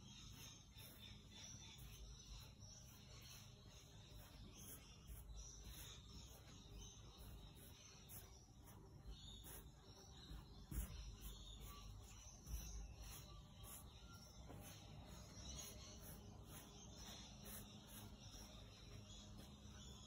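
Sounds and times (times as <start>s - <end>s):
brush scrubbing on canvas: 0.0s - 20.0s.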